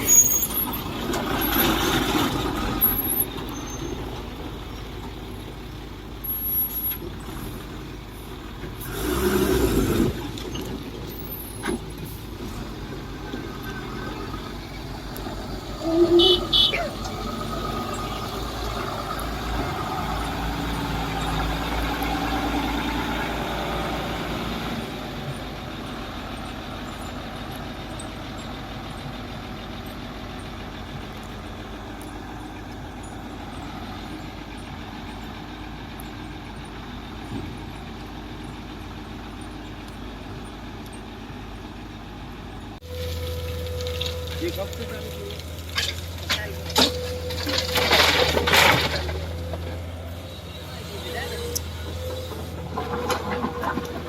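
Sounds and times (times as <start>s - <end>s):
heavy diesel engine rumbling: 0.0s - 54.0s.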